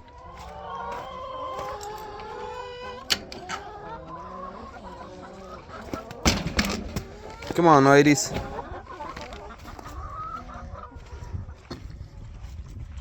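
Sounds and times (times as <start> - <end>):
hens clucking: 0.0 - 12.5.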